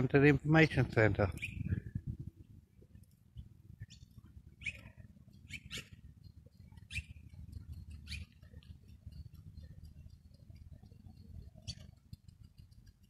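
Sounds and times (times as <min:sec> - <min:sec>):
steady low rumble: 0:00.0 - 0:13.0
birds calling: 0:00.8 - 0:02.1, 0:03.3 - 0:13.0.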